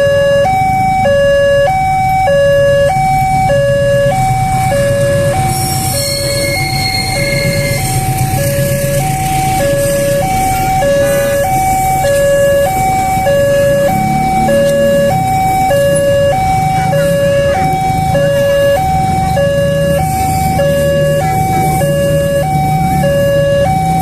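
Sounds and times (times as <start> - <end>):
level crossing two-tone alarm: 0.0 - 24.0.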